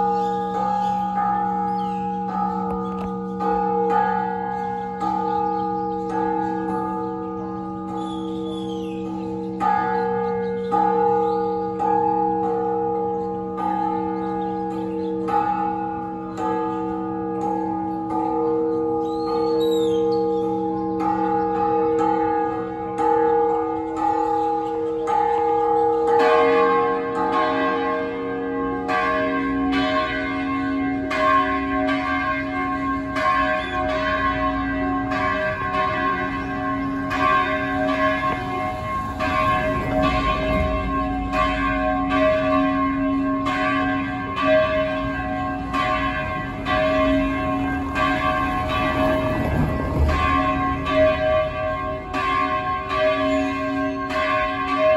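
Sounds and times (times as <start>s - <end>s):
church bells ringing a peal: 0.0s - 54.9s.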